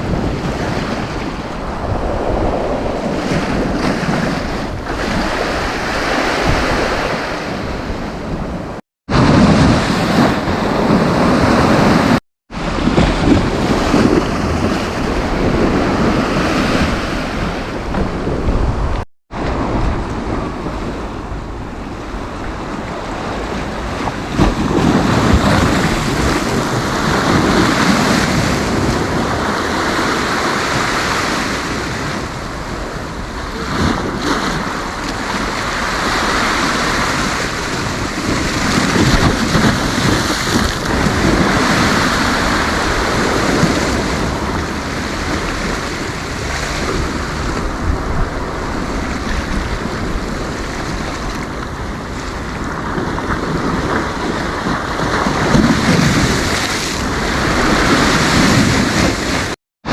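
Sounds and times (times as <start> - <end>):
sea waves breaking: 0.0 - 59.9
wind buffeting microphone: 0.0 - 59.9.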